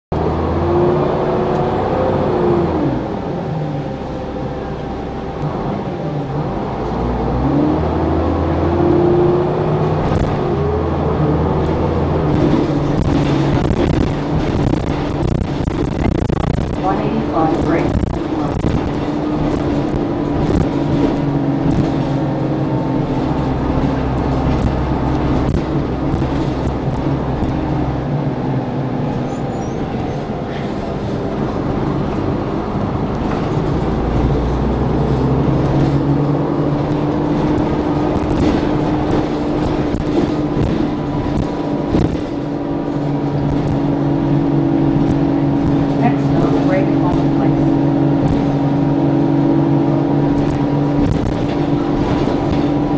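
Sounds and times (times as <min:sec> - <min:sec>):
bus engine droning: 0:00.1 - 0:52.9
road rumble: 0:00.1 - 0:52.9.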